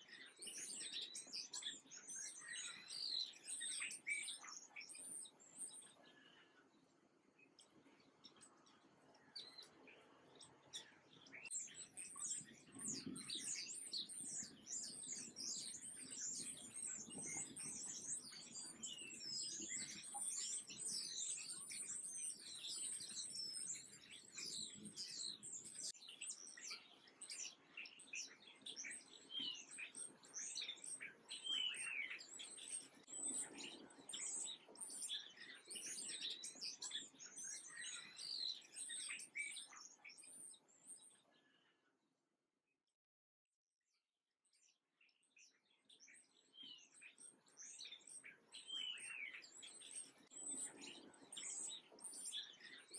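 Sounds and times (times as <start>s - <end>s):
songbirds chirping: 0.0s - 42.0s, 44.5s - 52.9s.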